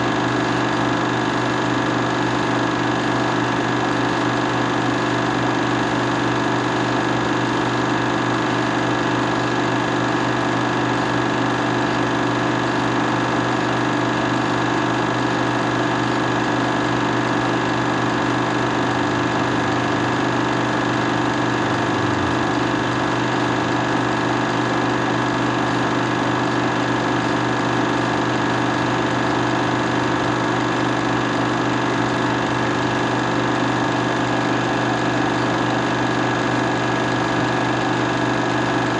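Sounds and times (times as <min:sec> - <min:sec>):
buzzing machine hum: 0:00.0 - 0:38.9.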